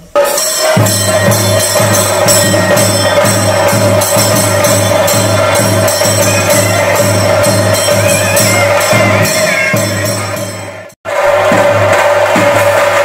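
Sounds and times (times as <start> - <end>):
deep drum beats: 0.0 - 13.0
small cymbals clashing: 0.0 - 13.0
held high note: 0.2 - 11.0.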